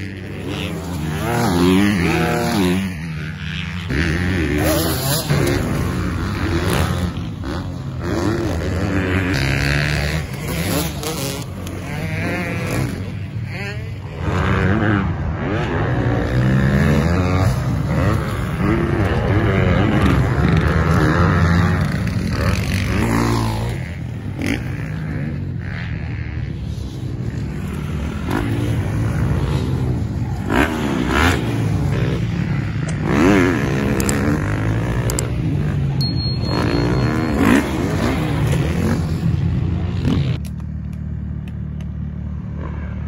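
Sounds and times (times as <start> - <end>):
dirt bike engines revving: 0.0 - 43.0.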